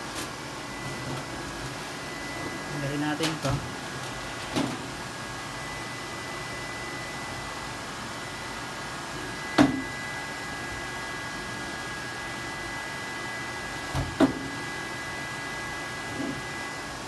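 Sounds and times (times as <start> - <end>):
cooling fan with high whine: 0.0 - 17.0.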